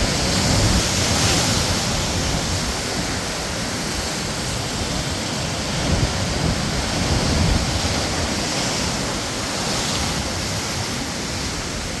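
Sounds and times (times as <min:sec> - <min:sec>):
waves breaking on shore: 0:00.0 - 0:12.0.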